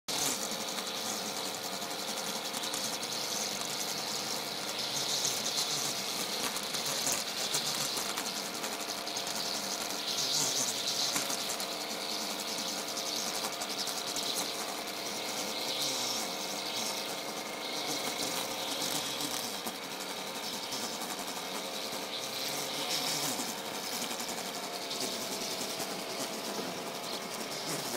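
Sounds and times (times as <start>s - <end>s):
power tool buzzing on brick: 0.1s - 27.9s.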